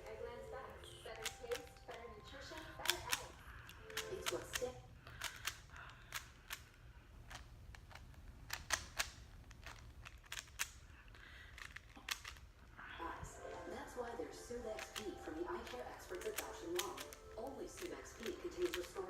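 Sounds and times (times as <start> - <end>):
speed cube layers clicking: 1.1 - 12.6, 14.6 - 19.0.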